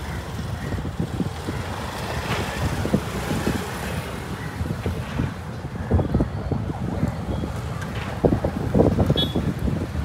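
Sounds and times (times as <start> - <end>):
low rumble of road traffic: 0.0 - 10.0
wind buffeting microphone: 0.0 - 10.0.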